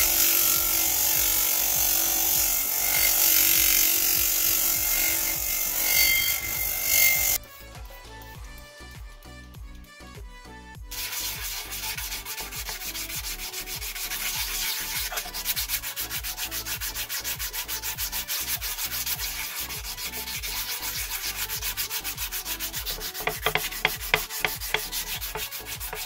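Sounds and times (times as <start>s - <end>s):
sandpaper rubbing on metal: 0.0s - 7.4s, 10.9s - 26.0s.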